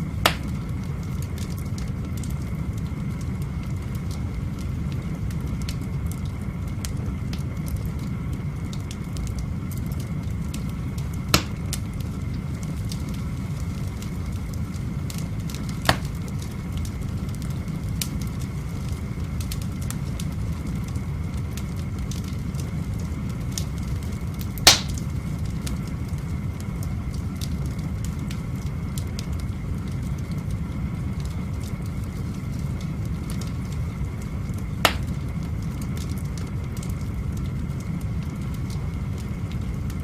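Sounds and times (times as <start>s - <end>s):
sharp pops of fire: 0.0s - 40.0s
wood fire crackling: 0.0s - 40.0s.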